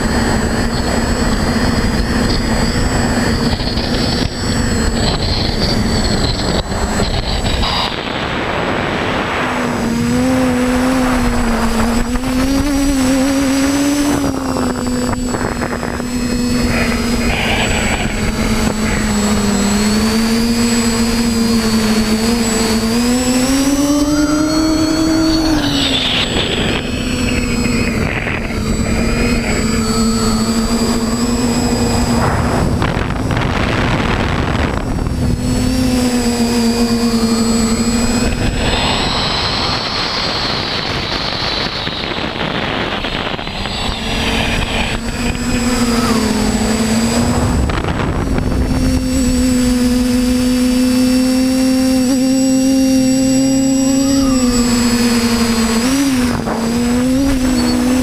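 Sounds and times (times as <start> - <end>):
drone motors buzzing: 0.0 - 58.0
wind over microphone: 0.0 - 58.0.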